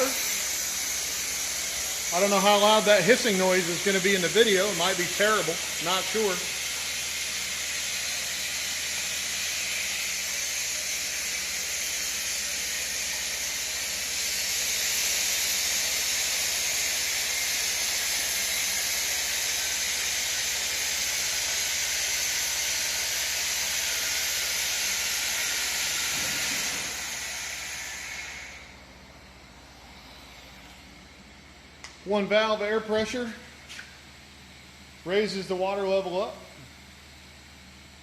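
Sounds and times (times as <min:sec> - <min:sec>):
compressed air hissing: 0:00.0 - 0:31.2.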